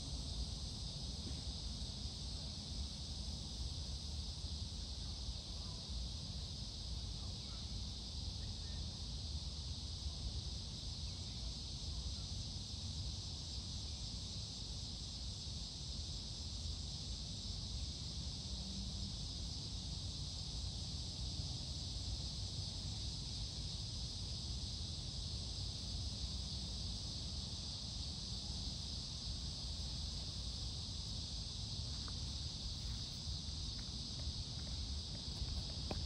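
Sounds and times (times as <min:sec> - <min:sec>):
constant high hiss: 0:00.0 - 0:36.0.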